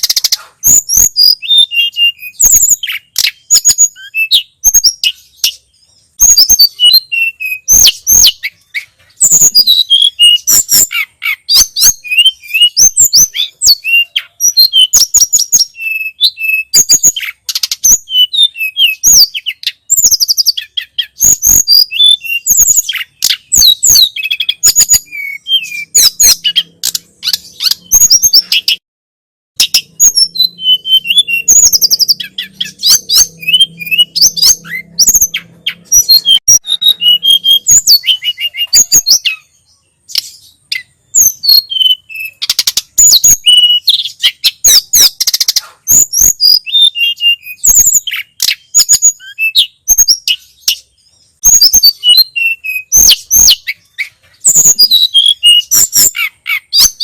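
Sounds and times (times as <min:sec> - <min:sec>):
songbird singing: 0:00.0 - 0:28.8, 0:29.6 - 0:57.0.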